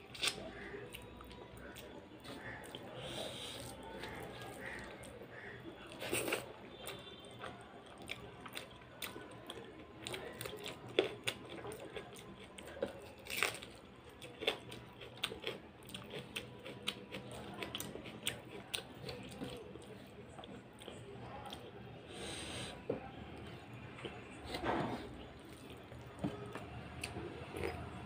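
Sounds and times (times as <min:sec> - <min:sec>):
wet chewing: 0:00.0 - 0:21.8, 0:23.4 - 0:28.0.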